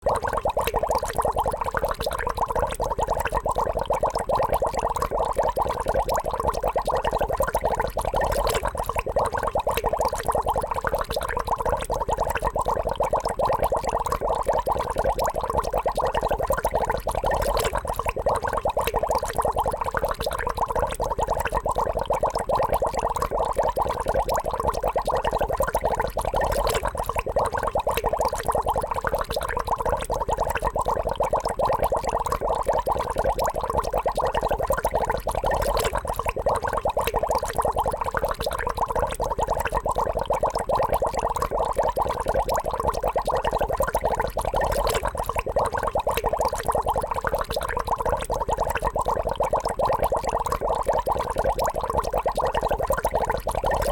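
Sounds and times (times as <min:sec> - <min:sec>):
water bubbling: 0:00.0 - 0:53.9.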